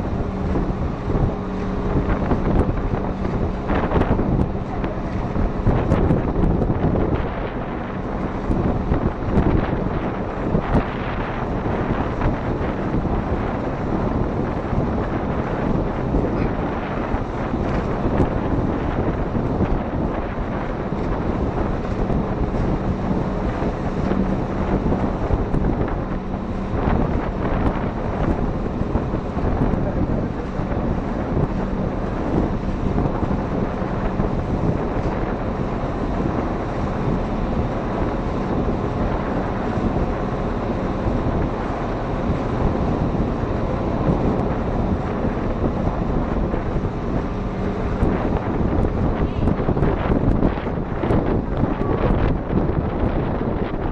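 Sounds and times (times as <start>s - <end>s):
boat engine drone: 0.0s - 53.9s
wind rushing over microphone: 0.0s - 53.9s.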